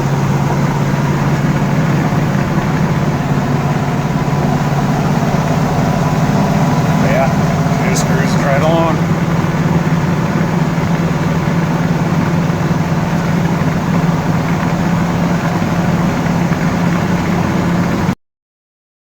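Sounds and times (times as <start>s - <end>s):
road noise: 0.0s - 18.1s
truck engine running: 0.0s - 18.1s.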